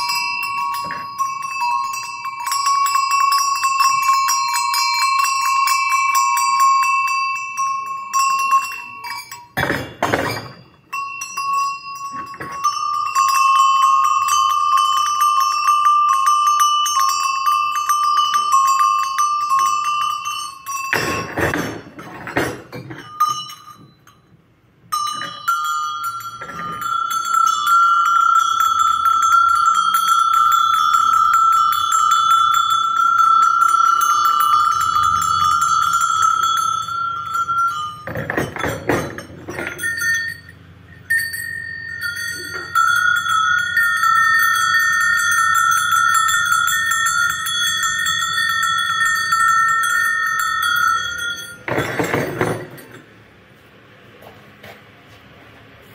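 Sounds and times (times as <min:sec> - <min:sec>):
bell handling knocks: 0:00.0 - 0:53.2
metal bells shaken: 0:00.0 - 0:54.0.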